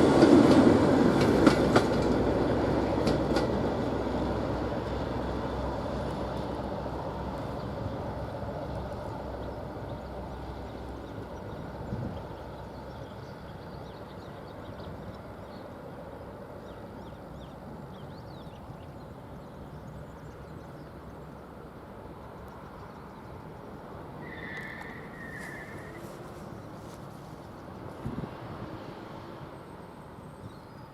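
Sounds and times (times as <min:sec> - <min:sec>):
outdoor background rumble: 0:00.0 - 0:30.9.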